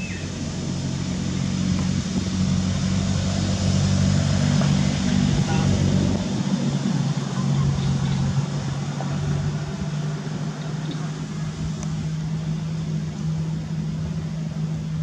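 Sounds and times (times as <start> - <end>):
engine droning: 0.0 - 15.0
outdoor background noise: 0.0 - 15.0.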